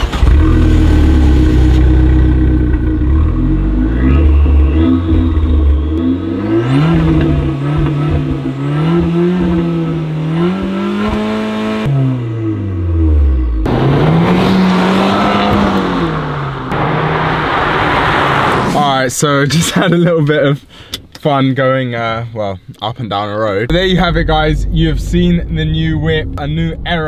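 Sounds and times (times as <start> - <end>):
car engine revving: 0.0 - 18.8, 23.7 - 27.0
road noise: 0.0 - 19.6, 23.7 - 27.0.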